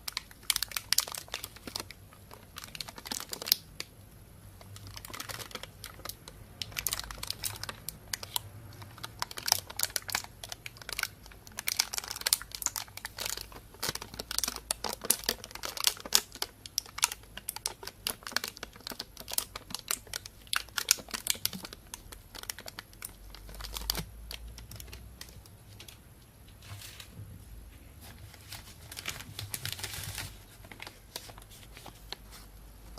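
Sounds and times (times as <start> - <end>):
plastic bag crinkling: 0.0 - 3.9, 4.6 - 26.0, 28.0 - 32.9.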